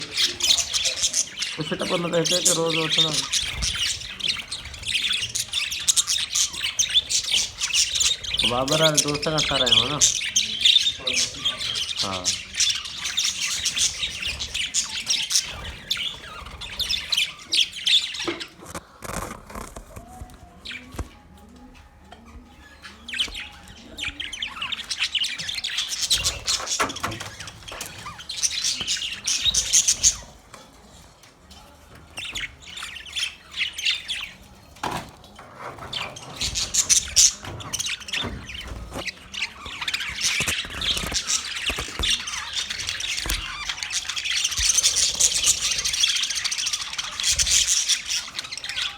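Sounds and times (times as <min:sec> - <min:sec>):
budgerigars chirping: 0:00.0 - 0:18.8, 0:21.8 - 0:30.8, 0:31.5 - 0:48.9.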